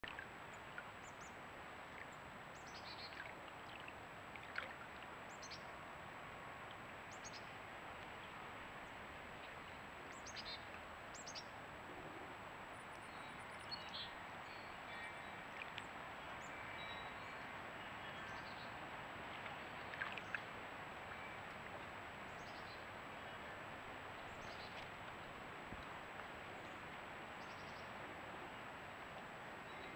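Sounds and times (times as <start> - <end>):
outdoor pond ambience hiss: 0.0 - 29.9.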